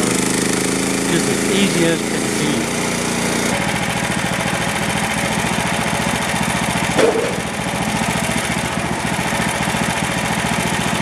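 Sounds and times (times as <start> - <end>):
small gasoline engine running: 0.0 - 11.0.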